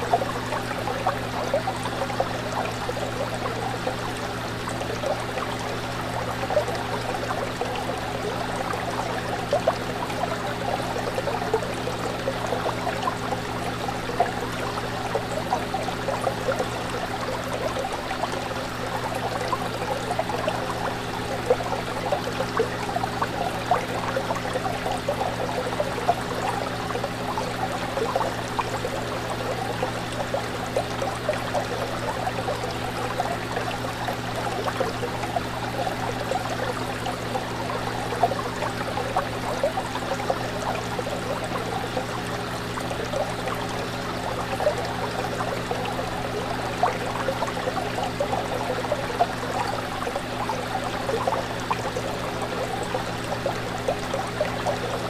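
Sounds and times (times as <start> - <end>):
fish tank water trickling: 0.0 - 55.0
small water splashes: 0.0 - 55.0.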